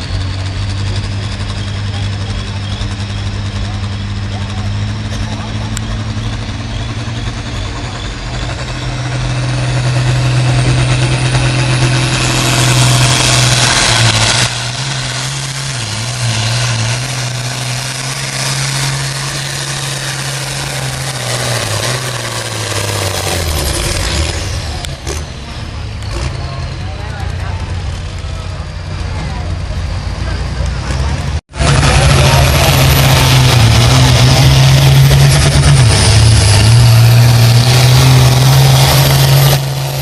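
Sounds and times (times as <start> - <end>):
high engine whine: 0.0 - 40.0
tractor engine under load: 0.0 - 40.0.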